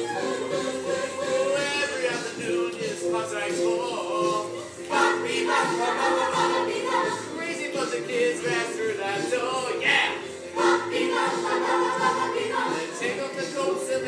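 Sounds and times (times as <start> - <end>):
chorus singing: 0.0 - 14.0
instrumental backing: 0.0 - 14.0.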